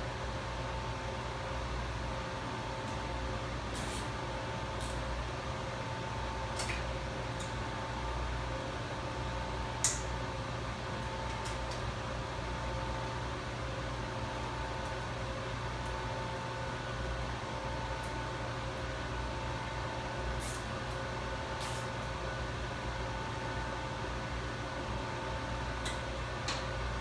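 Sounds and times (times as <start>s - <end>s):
equipment room mechanical hum: 0.0s - 27.0s.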